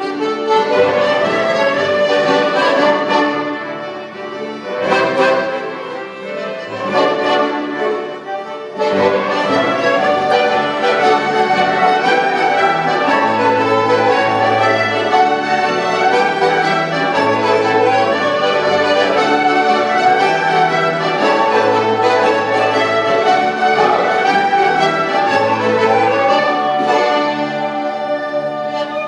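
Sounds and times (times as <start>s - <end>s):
folk ensemble playing a jig: 0.0s - 29.0s.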